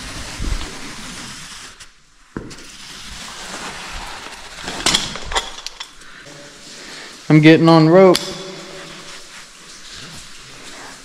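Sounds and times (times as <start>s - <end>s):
rope and gear hissing and rubbing: 0.0s - 11.0s.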